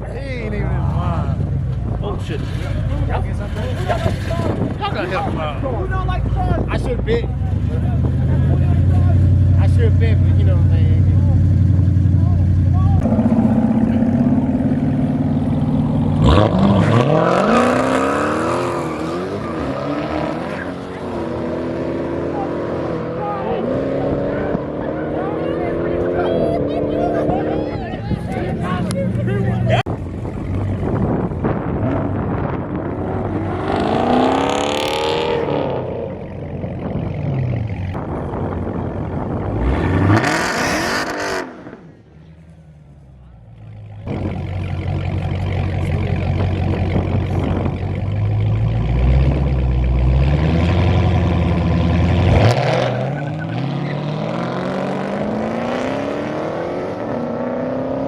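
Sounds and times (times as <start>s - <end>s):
race car engines accelerating: 0.0s - 58.0s.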